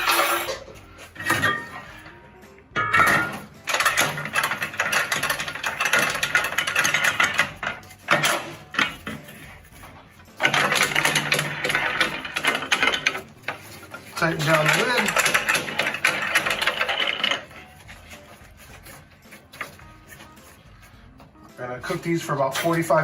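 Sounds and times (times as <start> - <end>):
metal rack clattering against metal pot: 0.0 - 2.1, 2.8 - 20.6, 21.8 - 23.0.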